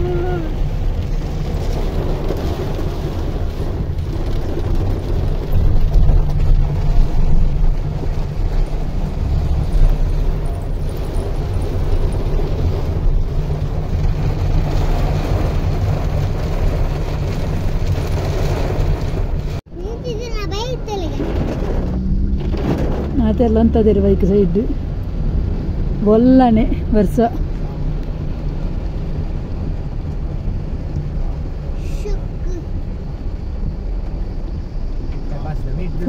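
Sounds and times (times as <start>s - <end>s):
heavy rain on car roof: 0.0s - 36.0s
road and engine rumble: 0.0s - 36.0s.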